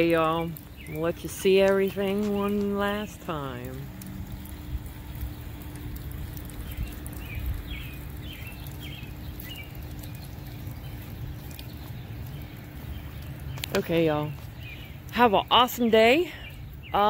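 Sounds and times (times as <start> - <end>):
bird chirping: 0.0 - 3.8, 4.5 - 17.0
low rumble: 0.0 - 15.2.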